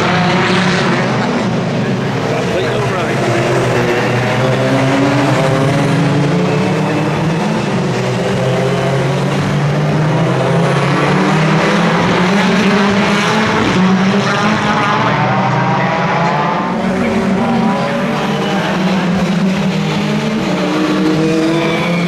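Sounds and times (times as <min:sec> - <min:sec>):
racing car engines: 0:00.0 - 0:22.0.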